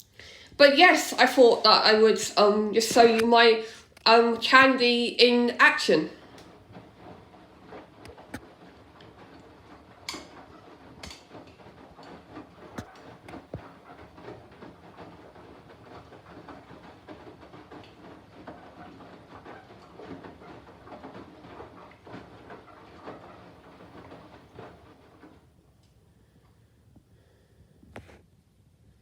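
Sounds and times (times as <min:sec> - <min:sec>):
washing machine drum tumbling: 0:00.6 - 0:25.8.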